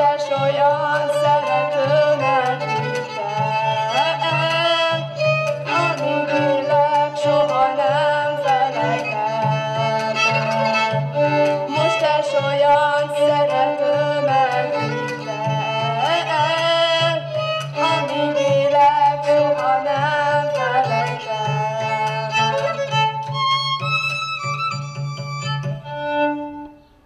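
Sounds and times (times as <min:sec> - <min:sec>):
low plucked string beat: 0:00.0 - 0:26.7
violin melody: 0:00.0 - 0:27.0.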